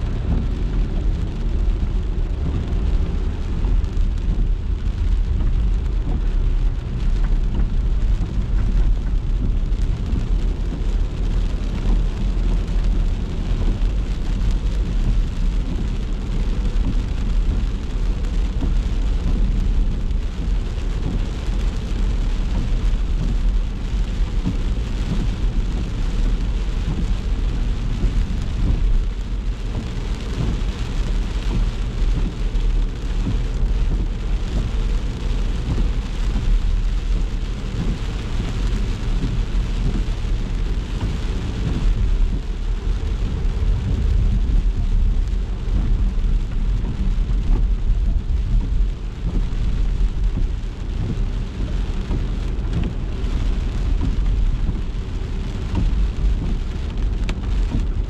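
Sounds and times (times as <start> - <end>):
car engine and road rumble: 0.0 - 58.0
rain and wet tyres hissing: 0.0 - 58.0.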